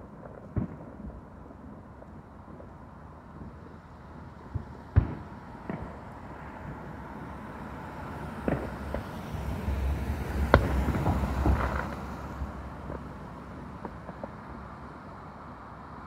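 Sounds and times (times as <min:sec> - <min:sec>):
distant fireworks popping and banging: 0:00.0 - 0:15.1
fireworks crackling: 0:00.0 - 0:15.2.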